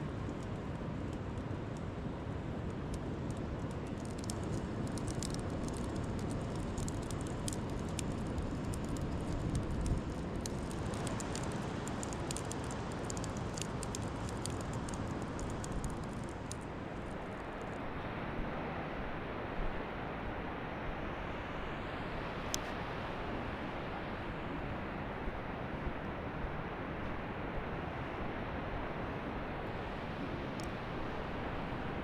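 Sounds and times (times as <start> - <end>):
wind: 0.0 - 32.0.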